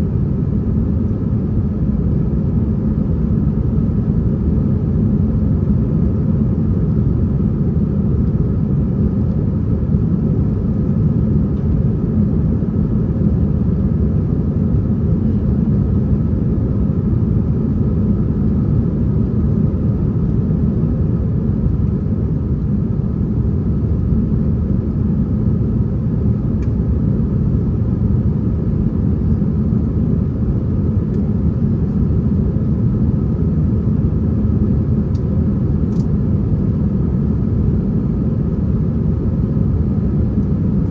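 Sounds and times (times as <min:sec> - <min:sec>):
aircraft cabin engine rumble: 0:00.0 - 0:40.9
faint steady hum: 0:00.0 - 0:40.9.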